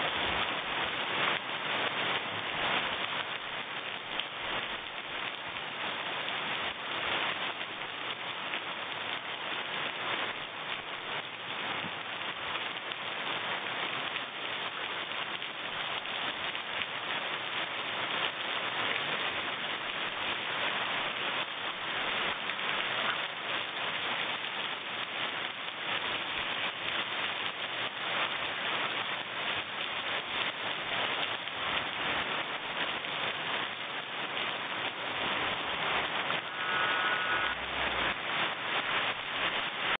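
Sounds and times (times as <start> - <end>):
heavy rain on lawn and plants: 0.0 - 40.0.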